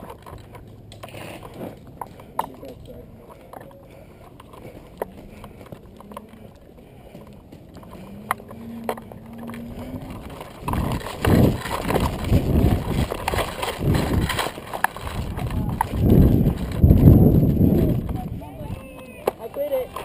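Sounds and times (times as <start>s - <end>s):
gear jostling against camera: 0.0s - 20.0s
running footsteps: 0.0s - 20.0s.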